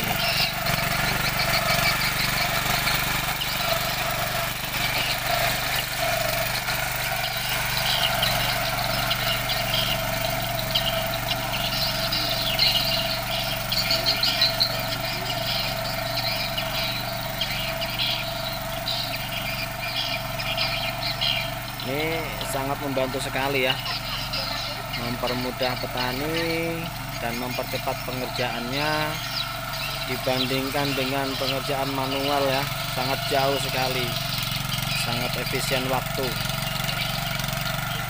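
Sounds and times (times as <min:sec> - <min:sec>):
small petrol engine running: 0:00.0 - 0:38.0
tiller tines churning soil: 0:00.0 - 0:38.0.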